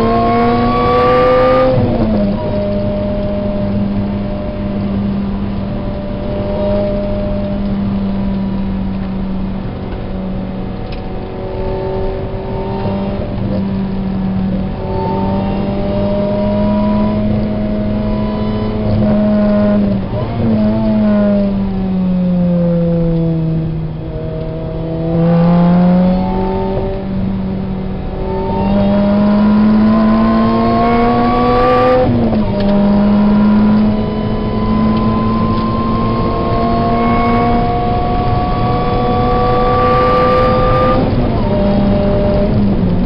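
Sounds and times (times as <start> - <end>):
car engine from inside cabin: 0.0 - 43.0.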